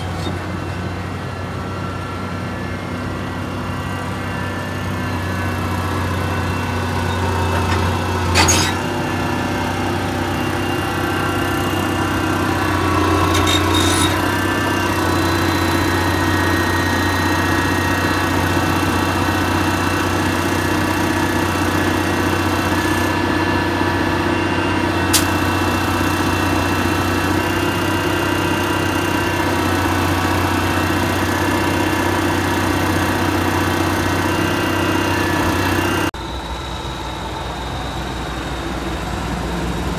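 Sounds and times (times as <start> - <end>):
excavator diesel engine: 0.0 - 39.9
hydraulic whine: 0.0 - 39.9.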